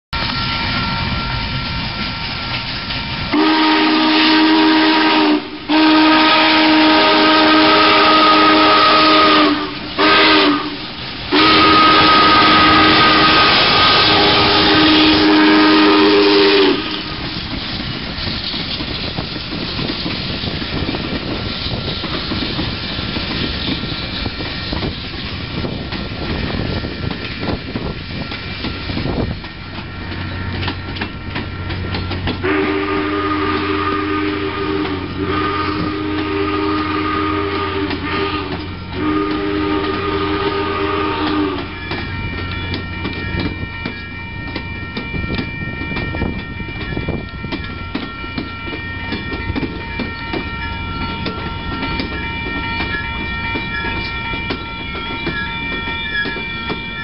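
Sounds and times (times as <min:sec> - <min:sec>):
passing train rumble: 0:00.1 - 0:57.0
steam locomotive chime whistle: 0:00.2 - 0:17.6, 0:25.5 - 0:57.0.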